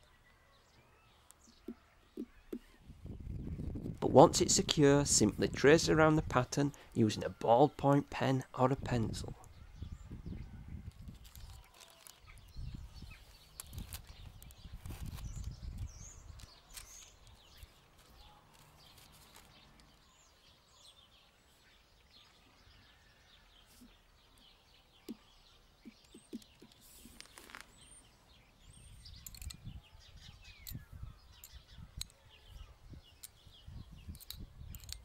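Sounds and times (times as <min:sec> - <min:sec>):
small birds chirping: 0:00.0 - 0:03.9, 0:06.5 - 0:35.0.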